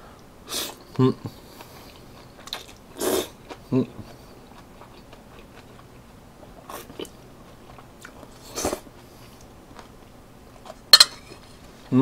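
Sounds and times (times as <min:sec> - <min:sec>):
quiet chewing with mouth clicks: 0:00.2 - 0:10.8.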